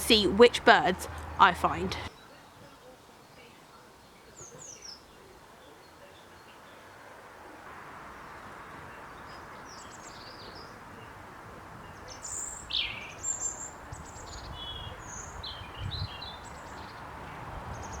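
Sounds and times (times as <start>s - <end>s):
outdoor background hiss: 0.0s - 18.0s
small birds singing and chirping: 1.0s - 7.1s, 8.3s - 11.2s, 11.8s - 18.0s.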